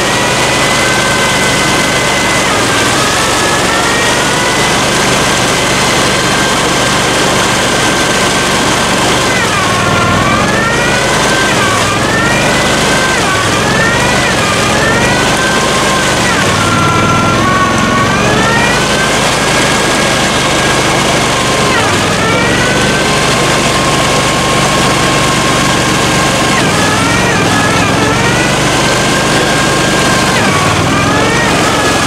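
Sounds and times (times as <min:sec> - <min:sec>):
vehicle engine whining under load: 0:00.0 - 0:32.0.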